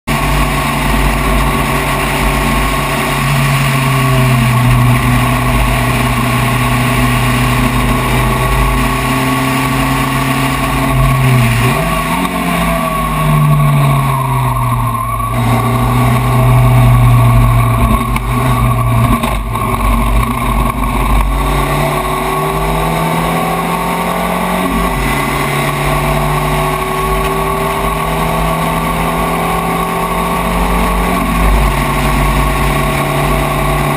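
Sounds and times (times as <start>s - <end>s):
race car engine: 0.0s - 33.9s
wind and road noise: 0.1s - 33.9s.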